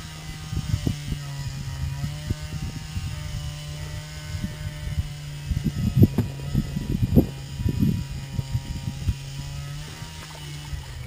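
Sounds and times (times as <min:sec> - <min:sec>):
low motor drone: 0:00.0 - 0:11.0
wind buffeting microphone: 0:00.0 - 0:11.0.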